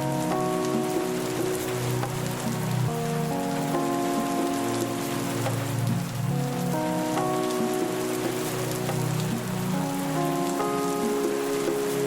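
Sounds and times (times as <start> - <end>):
background music of held chords: 0.0 - 12.0
rain falling: 0.0 - 12.0.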